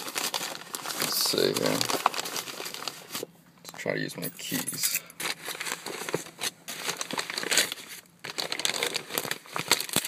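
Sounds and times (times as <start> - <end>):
plastic bag crinkling: 0.0 - 3.3, 5.1 - 10.0.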